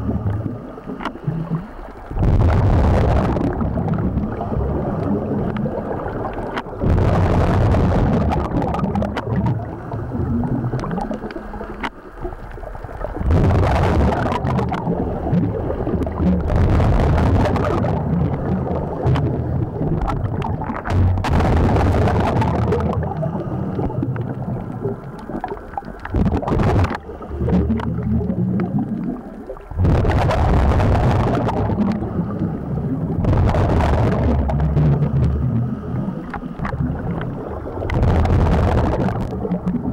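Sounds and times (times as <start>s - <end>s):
steady low rumble: 0.0s - 11.7s, 12.4s - 39.9s
exhaled bubbles underwater: 0.0s - 39.9s.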